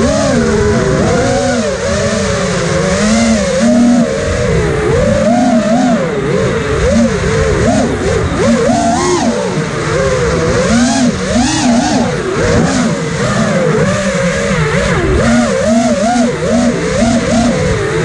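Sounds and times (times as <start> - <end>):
drone motors whining: 0.0 - 18.0
wind noise: 0.0 - 18.0.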